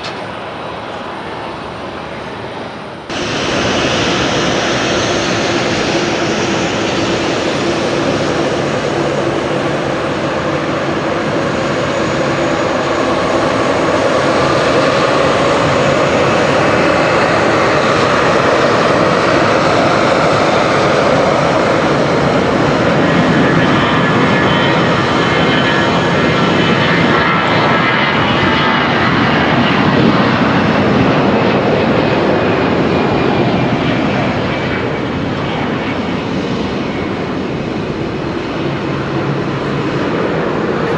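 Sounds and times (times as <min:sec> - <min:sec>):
jet engine noise: 0:00.0 - 0:40.9.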